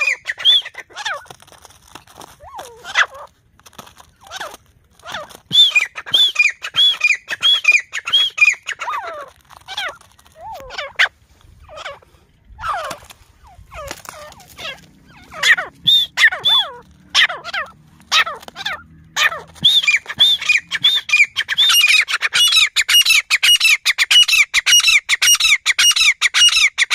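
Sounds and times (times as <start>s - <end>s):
francolins high arched calls: 0.0s - 1.3s, 4.3s - 26.9s
lower falling bird calls: 0.0s - 1.3s, 4.0s - 26.9s.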